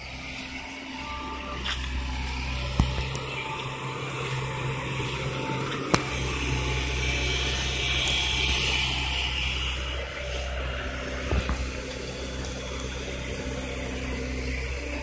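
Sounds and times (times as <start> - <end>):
construction machinery running: 0.0 - 15.0.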